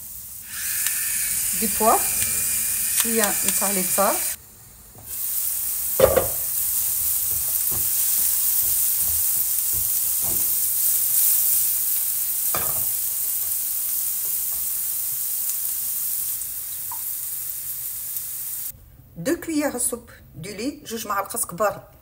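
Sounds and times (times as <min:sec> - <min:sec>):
vegetables sizzling in frying pan: 0:00.0 - 0:18.8.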